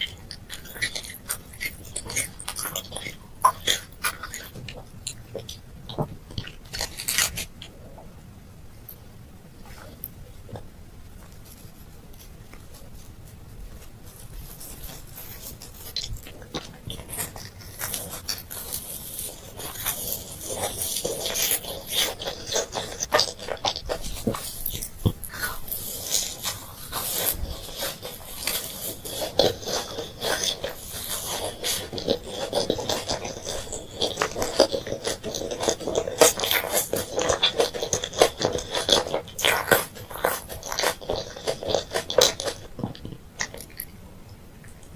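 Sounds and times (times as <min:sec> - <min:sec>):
crunching candy: 0:00.0 - 0:07.8, 0:13.8 - 0:44.0
sticky chewing clicks: 0:00.0 - 0:07.8, 0:13.8 - 0:44.9.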